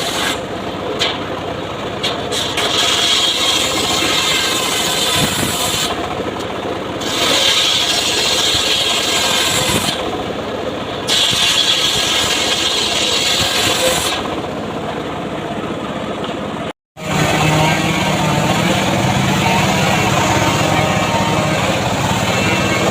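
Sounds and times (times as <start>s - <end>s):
circular saw cutting wood: 0.0s - 0.5s, 2.1s - 10.3s, 10.9s - 14.6s, 17.0s - 22.9s.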